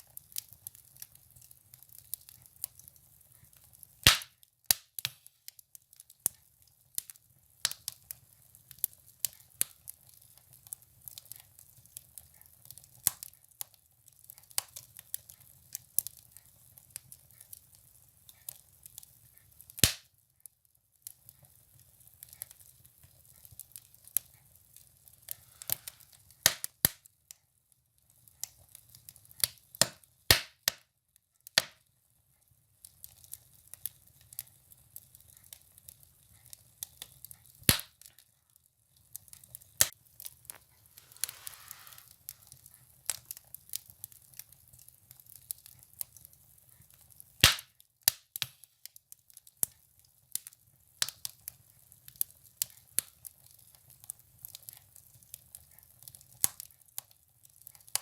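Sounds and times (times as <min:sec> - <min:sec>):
firewood crackling and popping: 0:00.0 - 0:30.8, 0:32.6 - 0:58.0.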